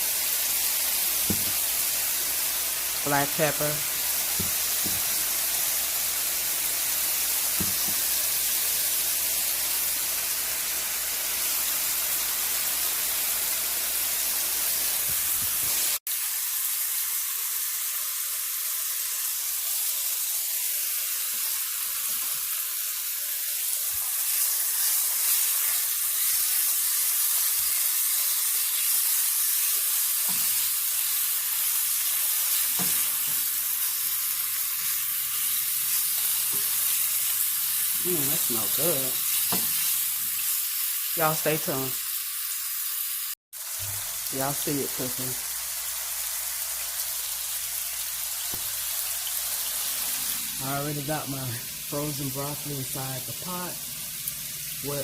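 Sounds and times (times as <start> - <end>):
chicken sizzling in a pan: 0.0 - 55.0.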